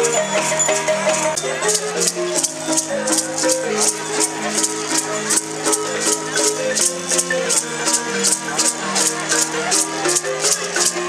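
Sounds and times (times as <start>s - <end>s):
melody of held notes: 0.0s - 11.0s
rattle shaken in steady beat: 0.0s - 11.0s.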